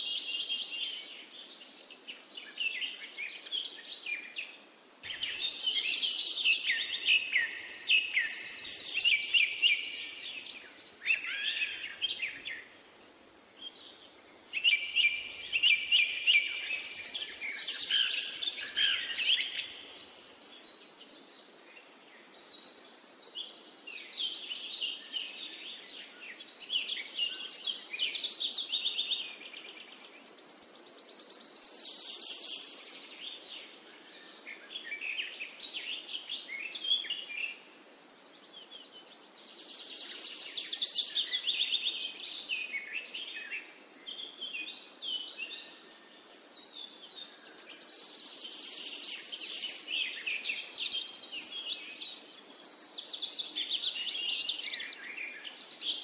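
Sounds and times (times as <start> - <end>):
songbirds singing trills and chirps: 0.0 - 56.0.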